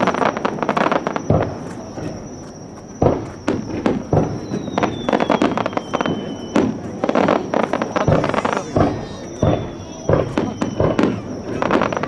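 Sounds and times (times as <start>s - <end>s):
descending firework whistle: 0.0s - 12.0s
firework crackling: 0.0s - 12.0s
firework shells bursting: 0.0s - 12.0s.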